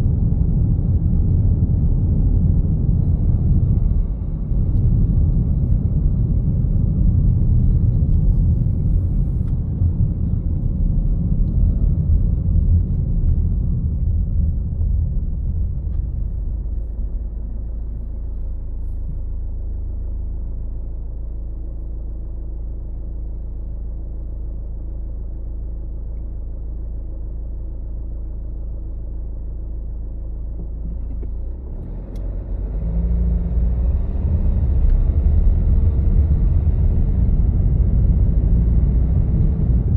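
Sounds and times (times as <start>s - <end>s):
road traffic engine and tyre rumble: 0.0s - 39.9s.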